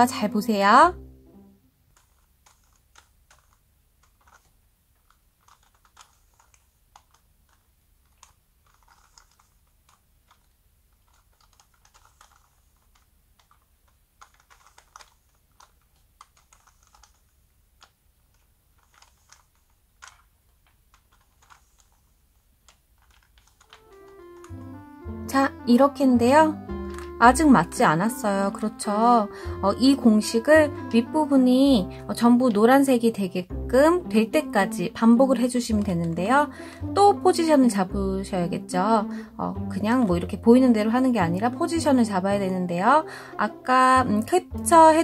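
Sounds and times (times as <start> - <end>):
puzzle cube clicking: 1.0 - 38.0.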